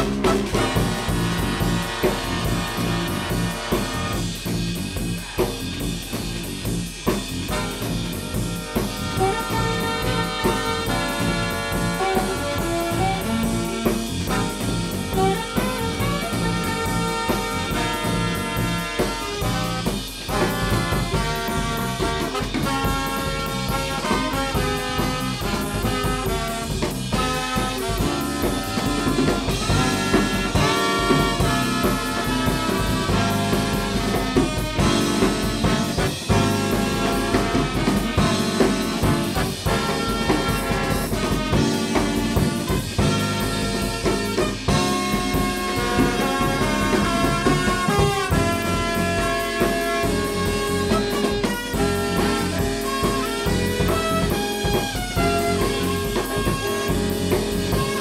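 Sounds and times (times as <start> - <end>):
driving drum kit: 0.0 - 58.0
trumpets and trombones: 0.0 - 58.0.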